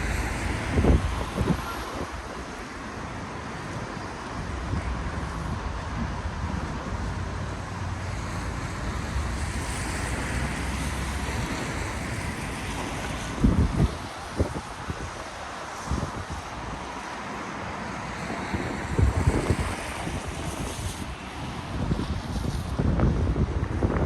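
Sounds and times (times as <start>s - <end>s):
low traffic rumble: 0.0s - 24.0s
tyres hissing on wet road: 0.0s - 24.0s.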